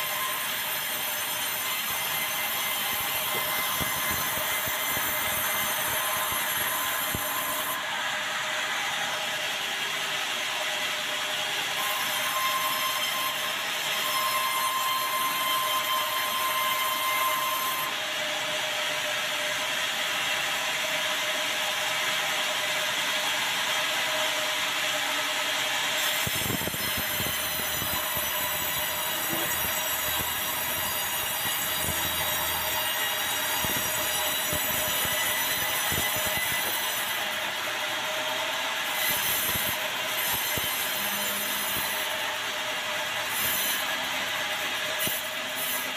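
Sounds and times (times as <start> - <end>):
band saw blade whining through wood: 0.0 - 45.9.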